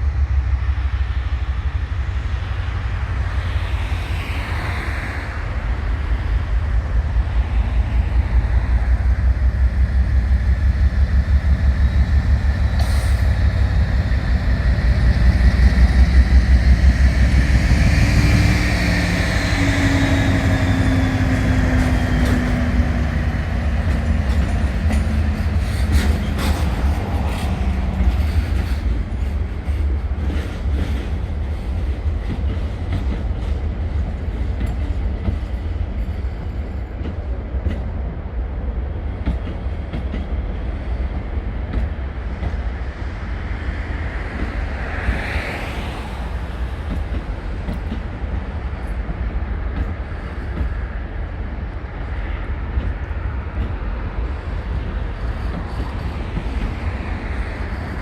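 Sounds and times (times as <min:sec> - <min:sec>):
diesel locomotive engine throb: 0:05.5 - 0:58.0.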